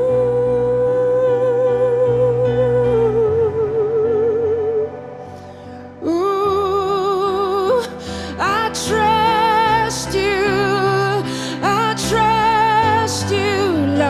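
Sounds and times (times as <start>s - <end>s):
woman singing wordless melody: 0.0s - 5.2s, 6.0s - 14.0s.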